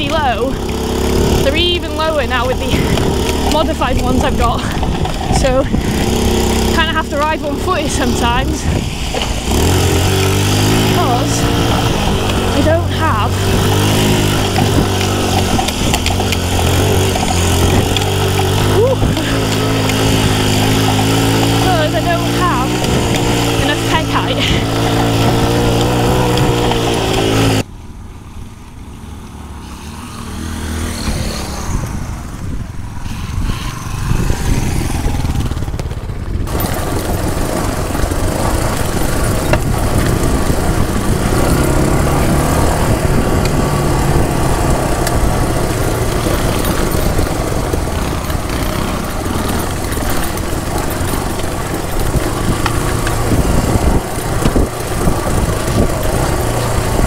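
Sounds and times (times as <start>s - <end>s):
wind on microphone: 0.0s - 27.6s, 30.8s - 57.0s
small motorcycle engine: 0.0s - 57.0s.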